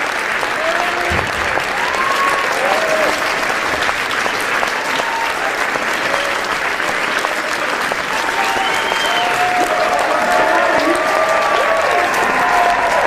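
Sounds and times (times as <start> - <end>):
audience applauding: 0.0 - 13.0
crowd shouting and cheering: 0.0 - 13.0.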